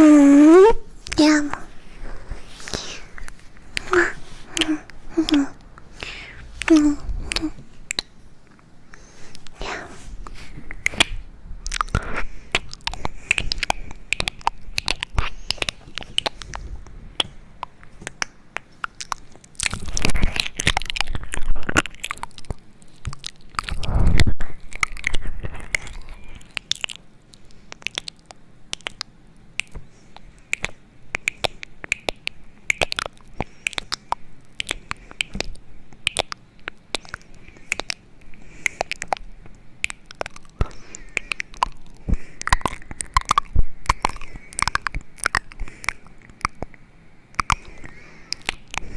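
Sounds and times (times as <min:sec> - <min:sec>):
crisp clicking and crunching: 0:00.9 - 0:48.9.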